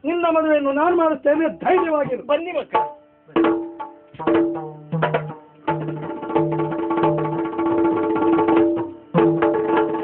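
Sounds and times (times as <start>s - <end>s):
fast dense drumming: 1.7s - 10.0s.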